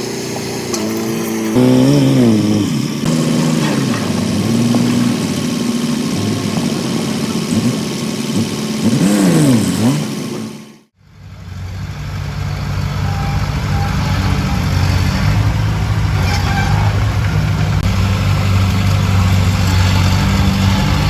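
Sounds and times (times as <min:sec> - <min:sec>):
construction machine engine revving: 0:00.0 - 0:21.0.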